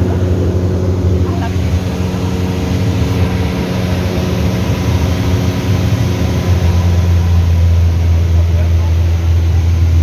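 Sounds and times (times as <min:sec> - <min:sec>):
propeller aircraft engine droning: 0:00.0 - 0:10.0.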